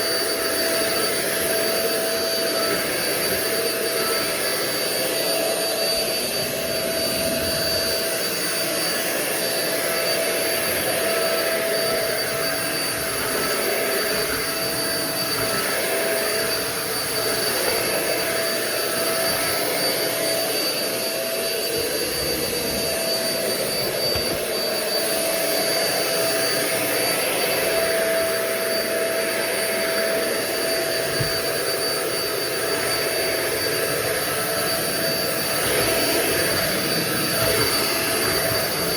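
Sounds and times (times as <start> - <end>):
stick vacuum running: 0.0 - 38.9.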